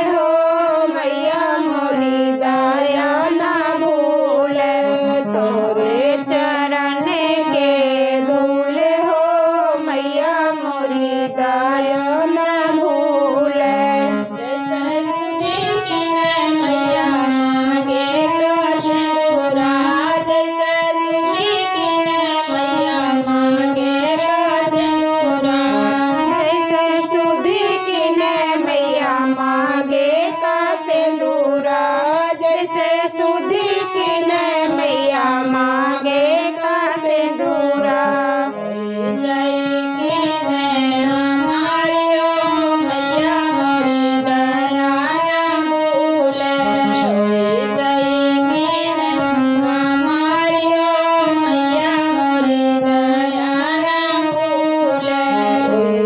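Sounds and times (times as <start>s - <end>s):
harmonium: 0.0s - 56.0s
women singing a devotional song: 0.0s - 56.0s.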